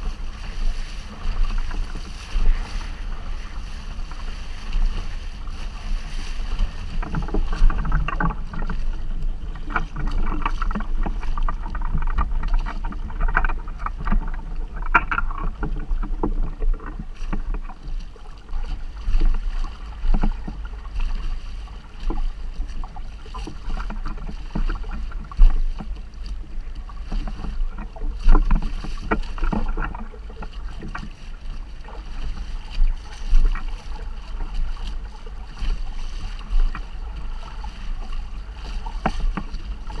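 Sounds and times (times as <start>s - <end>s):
water splashing against boat hull: 0.0s - 40.0s
wind rumble on microphone: 0.0s - 40.0s.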